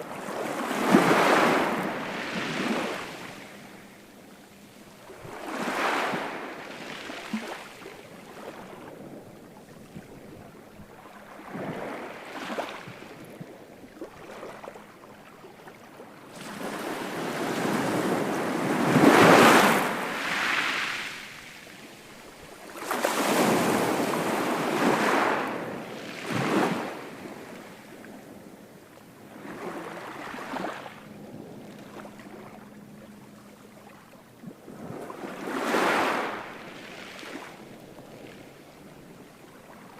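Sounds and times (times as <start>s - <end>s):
waves breaking on shore: 0.0s - 28.2s, 29.2s - 39.9s.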